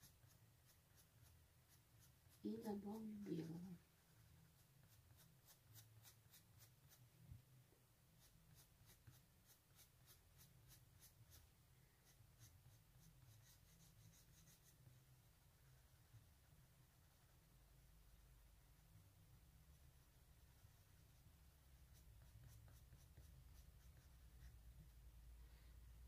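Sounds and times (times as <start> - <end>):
pencil scratching on paper: 0.0 - 7.1, 8.2 - 25.1.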